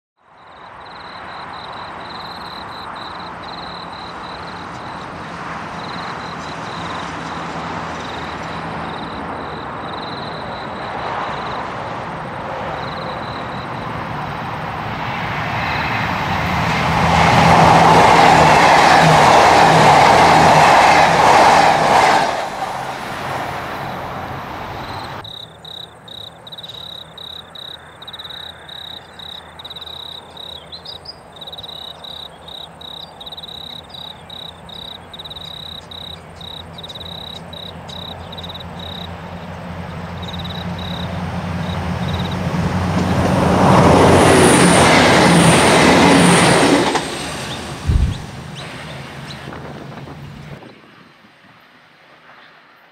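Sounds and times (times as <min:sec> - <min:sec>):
diesel trains passing at speed: 0:00.2 - 0:52.9.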